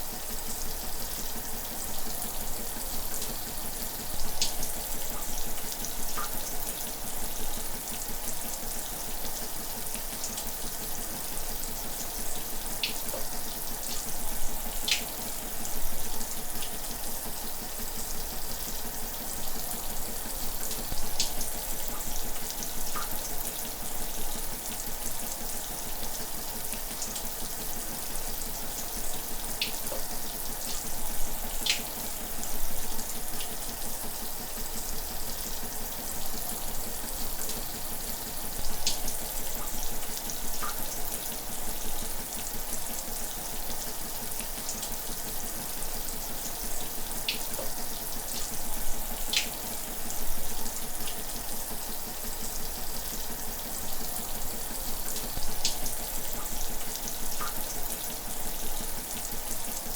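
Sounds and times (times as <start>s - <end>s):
shower water running: 0.0s - 59.9s.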